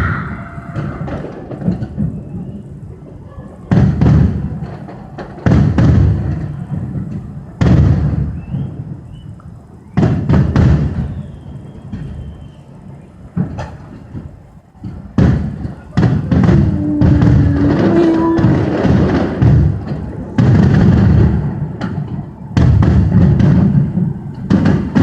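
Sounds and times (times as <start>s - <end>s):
firework shells booming: 0.0s - 25.0s.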